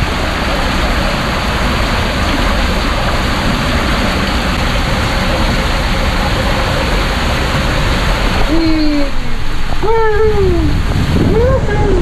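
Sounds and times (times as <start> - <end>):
rushing water: 0.0 - 12.0
wind on microphone: 0.0 - 12.0.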